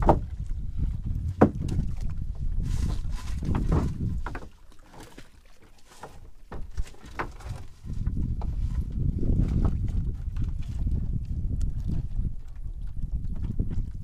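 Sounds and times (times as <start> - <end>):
wind rumble on microphone: 0.0 - 4.6, 6.5 - 14.0.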